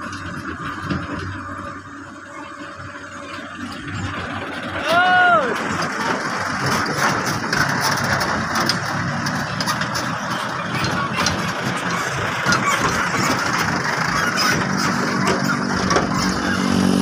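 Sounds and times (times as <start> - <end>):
dump truck driving past: 0.0 - 17.0
heavy machinery drone: 0.0 - 17.0.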